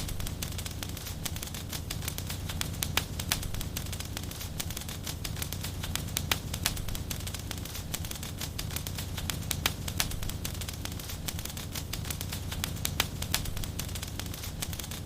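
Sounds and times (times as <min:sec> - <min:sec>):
fire crackling: 0:00.0 - 0:15.0
loud fire snap: 0:00.0 - 0:15.0
low steady rumble: 0:00.0 - 0:15.0.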